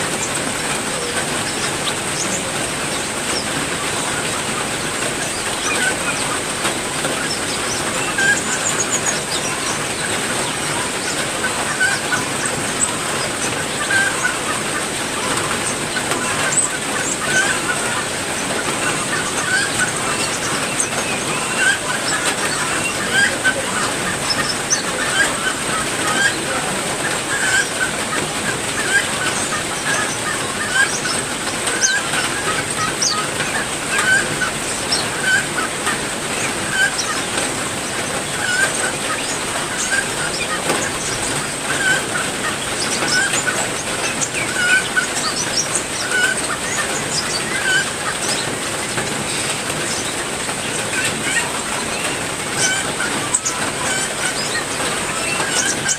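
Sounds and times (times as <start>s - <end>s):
small birds chirping: 0.0s - 55.9s
steady rain: 0.0s - 55.9s.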